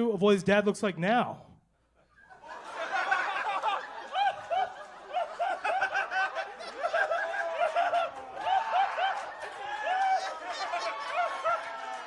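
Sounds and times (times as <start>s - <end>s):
audience laughing: 2.0s - 12.0s.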